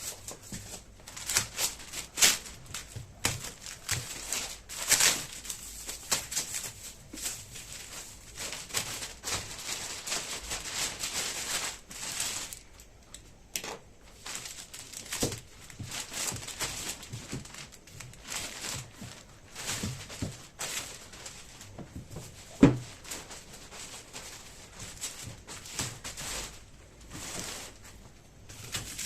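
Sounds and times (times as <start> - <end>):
wrapping crinkling and rustling: 0.0 - 29.0.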